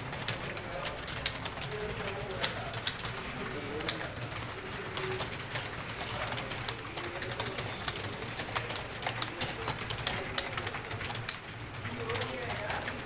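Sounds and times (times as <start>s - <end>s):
keyboards typing: 0.0s - 13.0s.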